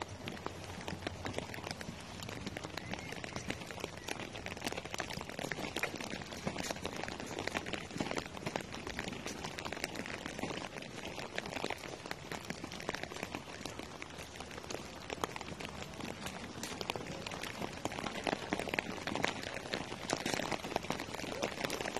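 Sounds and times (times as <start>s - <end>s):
rain patter: 0.0s - 21.9s.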